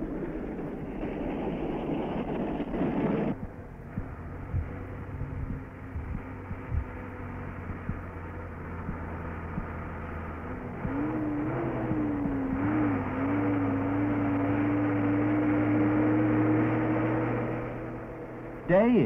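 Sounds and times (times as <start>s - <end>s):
lorry engine running: 0.0s - 19.0s.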